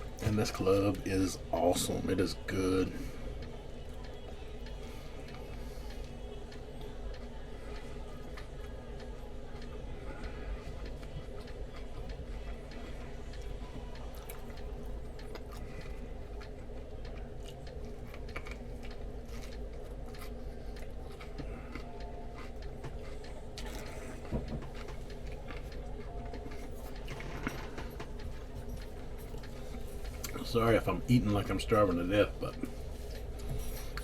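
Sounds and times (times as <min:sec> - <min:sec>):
low steady hum: 0:00.0 - 0:34.0
person chewing food: 0:00.0 - 0:34.0.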